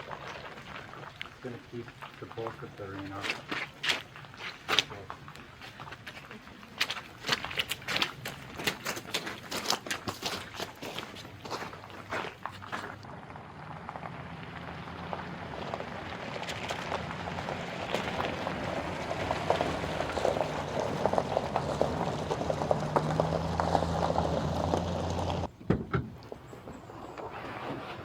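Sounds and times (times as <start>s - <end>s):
water pattering and bubbling: 0.0s - 25.5s.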